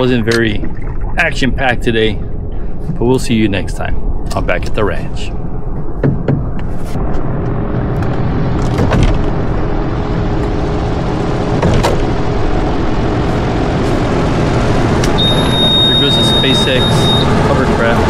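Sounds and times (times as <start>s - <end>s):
boat motor rumbling: 0.0s - 18.0s.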